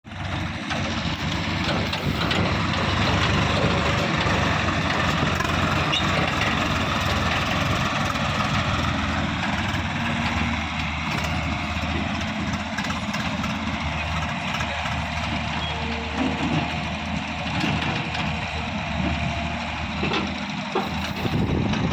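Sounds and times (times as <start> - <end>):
diesel engine rumbling: 0.0 - 21.9.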